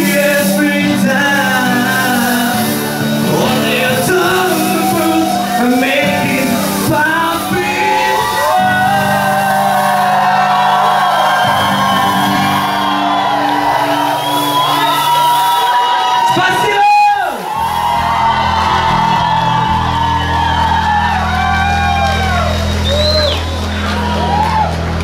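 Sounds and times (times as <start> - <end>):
shouted vocals: 0.0 - 24.8
live concert music with singing: 0.0 - 25.0.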